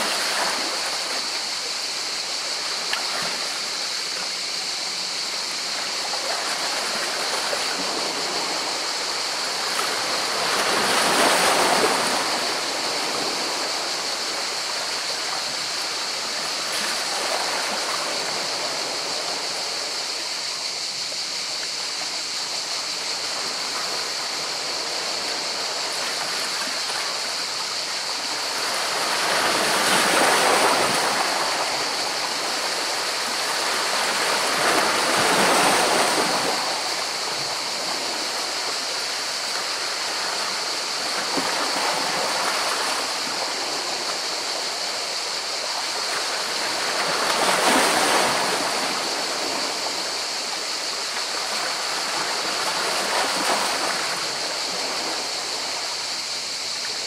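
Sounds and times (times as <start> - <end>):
sea waves washing over rocks: 5.9 - 19.9, 23.2 - 56.0.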